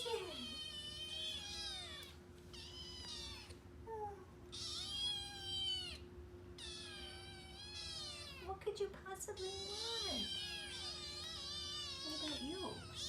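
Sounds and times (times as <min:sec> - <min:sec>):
kittens meowing: 0:00.0 - 0:03.6, 0:04.5 - 0:08.5, 0:09.4 - 0:13.0.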